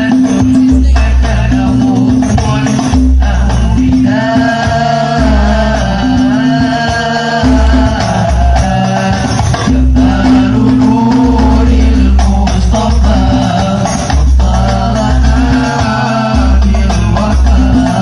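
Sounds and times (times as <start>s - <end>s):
frame drums beating: 0.0s - 18.0s.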